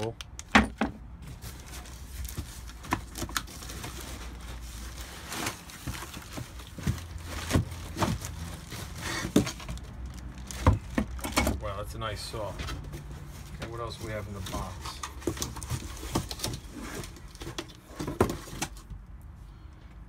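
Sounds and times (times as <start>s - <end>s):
cardboard and plastic rustling: 0.6s - 19.0s.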